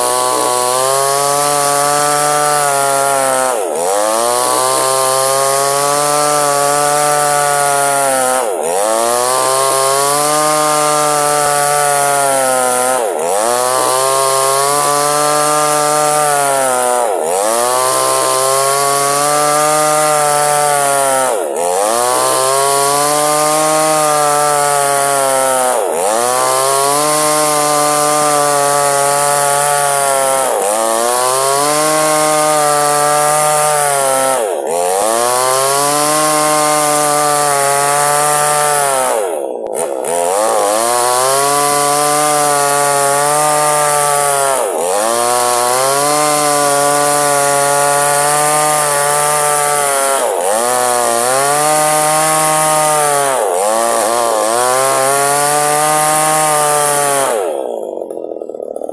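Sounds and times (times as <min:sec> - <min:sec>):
chainsaw cutting a log: 0:00.0 - 0:58.9.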